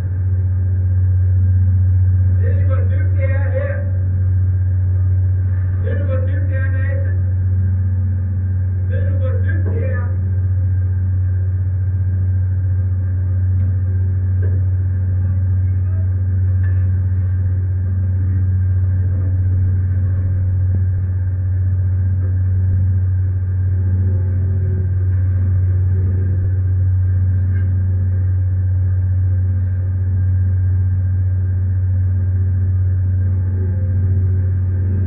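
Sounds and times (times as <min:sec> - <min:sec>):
ship engine drone: 0:00.0 - 0:35.0.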